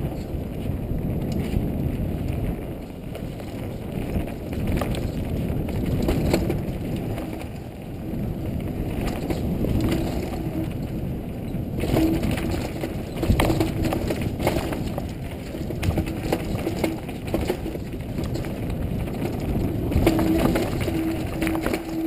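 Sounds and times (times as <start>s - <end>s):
bike clicks and rattles: 0.0s - 22.0s
steady rumble of tyres and wind: 0.0s - 22.0s.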